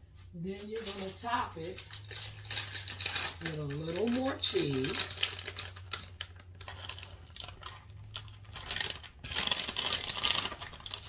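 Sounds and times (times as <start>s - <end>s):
plastic packaging crinkling: 0.6s - 11.0s.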